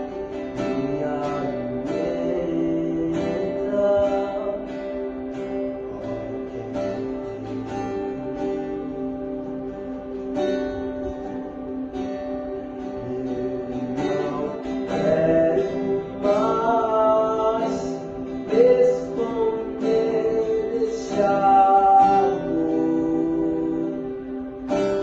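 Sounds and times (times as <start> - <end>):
acoustic guitar chords: 0.0 - 25.0
gliding guitar melody: 0.0 - 25.0.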